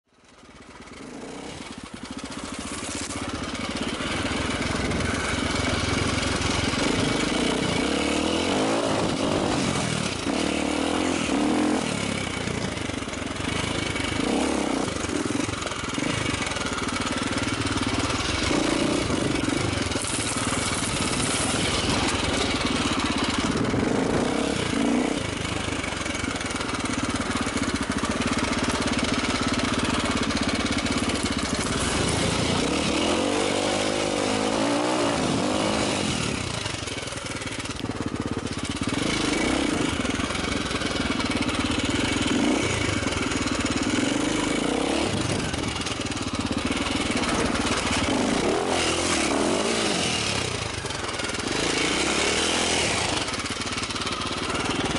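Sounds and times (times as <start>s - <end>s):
motorcycle engine revving: 0.1s - 54.9s.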